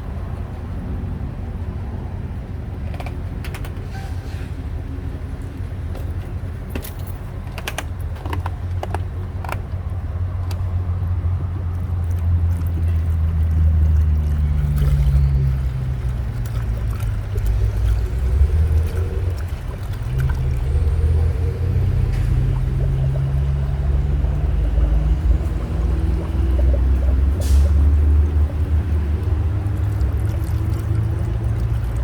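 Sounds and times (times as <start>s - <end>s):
engine low rumble: 0.0s - 32.0s.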